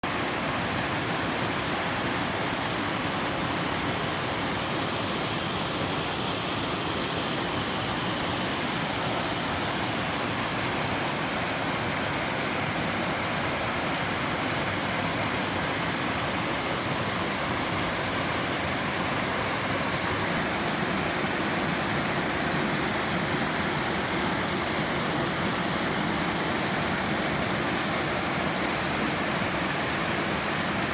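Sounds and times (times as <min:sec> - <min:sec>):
waterfall rushing over rocks: 0:00.0 - 0:30.9.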